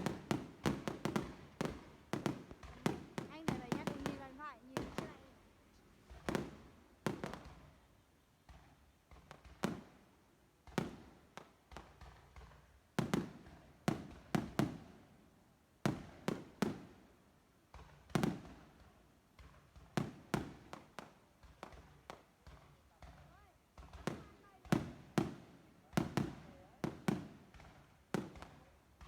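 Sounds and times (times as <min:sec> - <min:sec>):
fireworks bangs with echoing rumble: 0:00.0 - 0:29.0.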